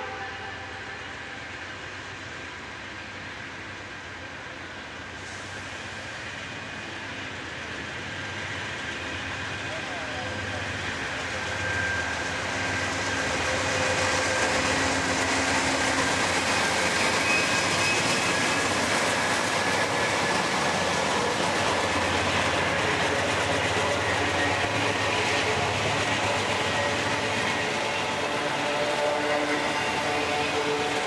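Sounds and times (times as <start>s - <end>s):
diesel locomotives passing: 0.0s - 31.0s
steel wheels rumbling on rail: 0.0s - 31.0s.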